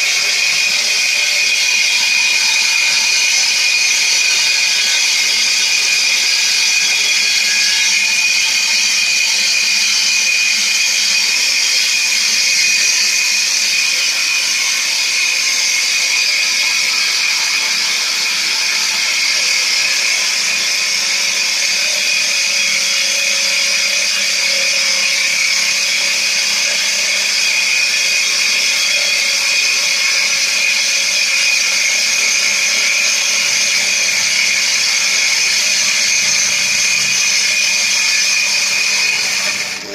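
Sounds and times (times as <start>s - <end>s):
saw whining through board: 0.0s - 39.9s.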